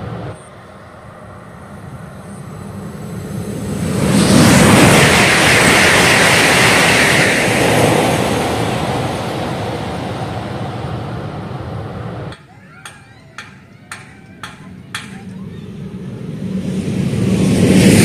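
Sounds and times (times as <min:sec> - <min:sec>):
high-speed train passing: 0:00.0 - 0:18.0.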